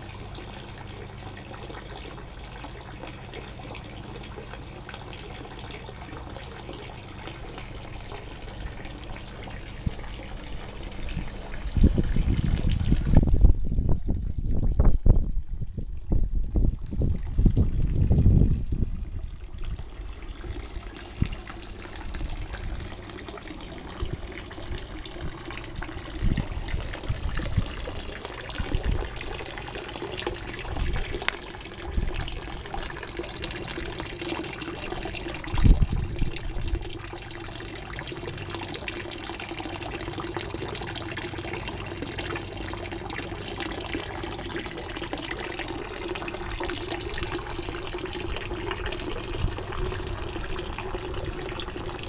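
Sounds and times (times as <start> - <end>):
fountain splashing into pond: 0.0 - 52.0.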